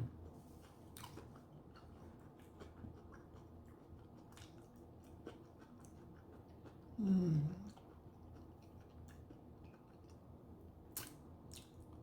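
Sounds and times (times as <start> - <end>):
chewing food: 0.1 - 7.0, 7.6 - 12.0.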